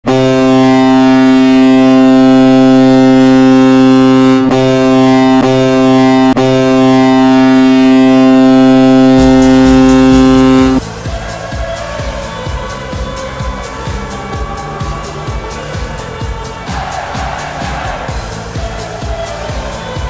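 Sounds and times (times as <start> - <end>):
deep goal horn blast: 0.0 - 20.0.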